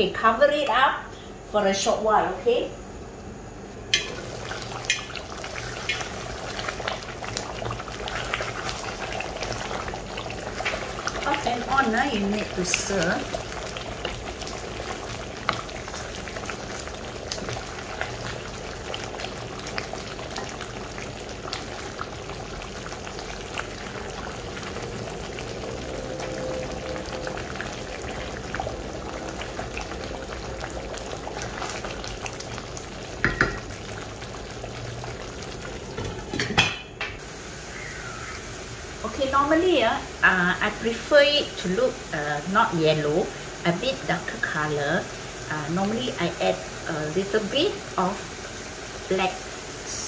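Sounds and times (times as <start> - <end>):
curry bubbling in a wok: 3.9 - 36.5, 37.2 - 50.0.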